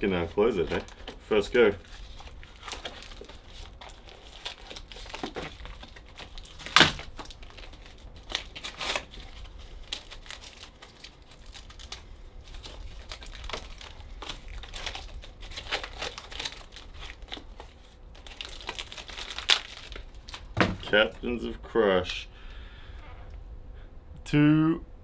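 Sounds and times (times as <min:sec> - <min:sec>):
plastic packaging crinkling and tearing: 0:00.0 - 0:21.4.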